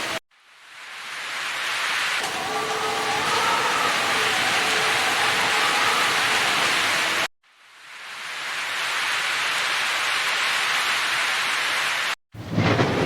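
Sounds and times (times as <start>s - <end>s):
rain hiss: 0.0s - 12.2s.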